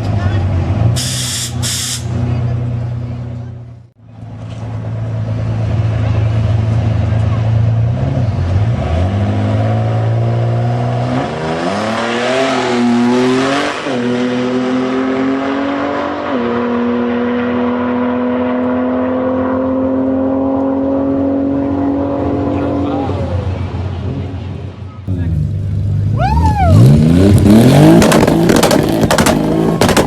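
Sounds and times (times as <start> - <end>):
car engine accelerating hard: 4.9 - 24.4, 25.0 - 30.0.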